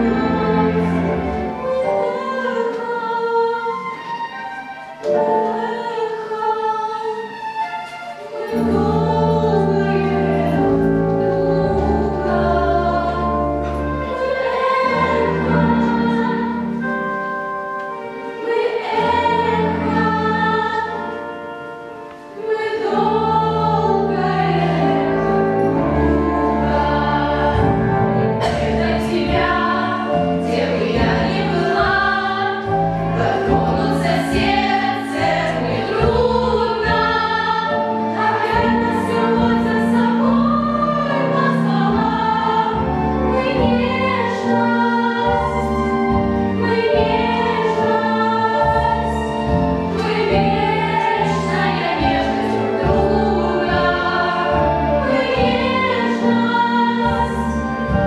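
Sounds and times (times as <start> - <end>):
girls singing together: 0.0 - 4.2, 5.1 - 7.6, 8.2 - 17.1, 18.0 - 21.5, 22.1 - 58.0
instrumental accompaniment: 0.0 - 58.0.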